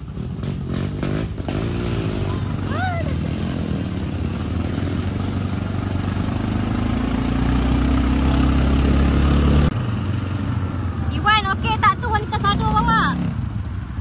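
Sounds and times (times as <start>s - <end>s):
quad bike engine accelerating: 0.0s - 14.0s.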